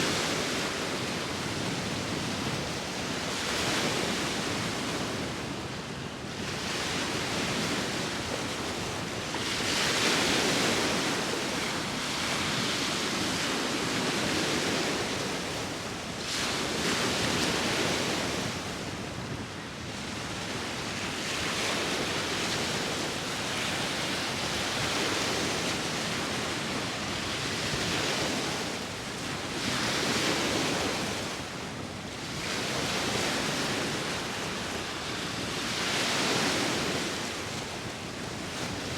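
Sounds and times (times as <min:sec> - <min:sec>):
sea waves breaking on shore: 0:00.0 - 0:38.9
wind: 0:00.0 - 0:38.9.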